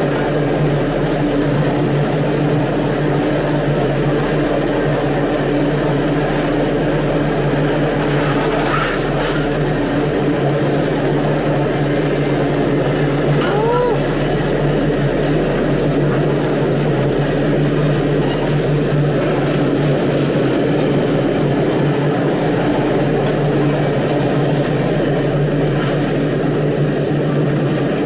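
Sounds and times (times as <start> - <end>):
freight wagons rumbling on rails: 0.0 - 28.0.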